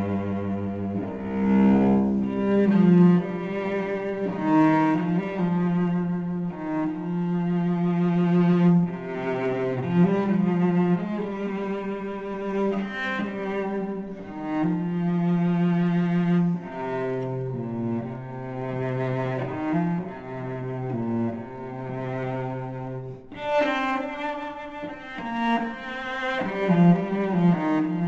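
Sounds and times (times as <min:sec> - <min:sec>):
low bowed strings music: 0:00.0 - 0:28.0.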